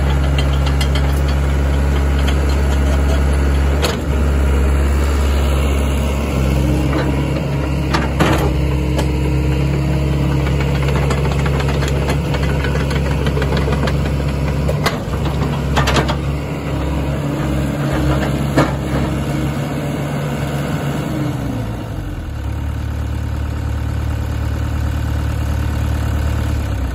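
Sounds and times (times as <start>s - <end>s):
excavator diesel engine idling: 0.0s - 26.9s.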